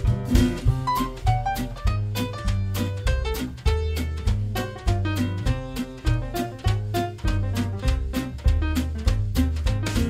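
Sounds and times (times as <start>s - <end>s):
instrumental swing band music: 0.0s - 10.0s.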